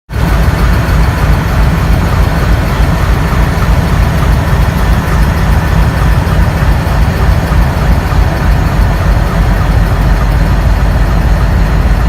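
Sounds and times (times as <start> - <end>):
diesel locomotives chugging: 0.1 - 12.0.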